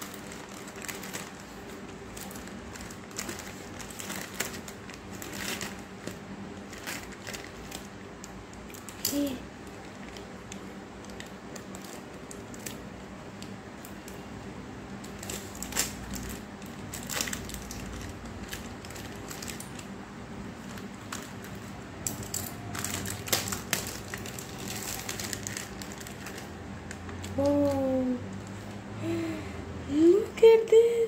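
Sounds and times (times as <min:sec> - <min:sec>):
foil snack packet crinkling: 0:00.0 - 0:13.0, 0:14.9 - 0:28.6.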